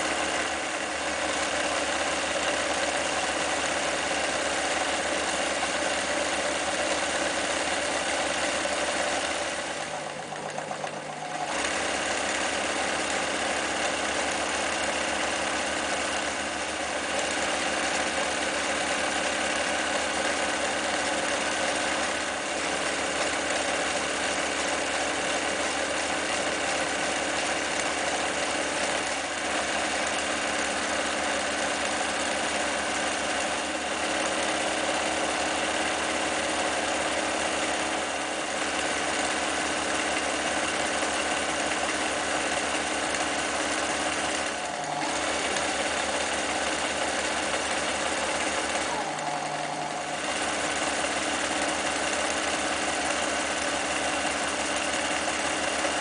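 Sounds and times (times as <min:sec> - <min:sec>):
sewing machine running: 0:00.0 - 0:56.0.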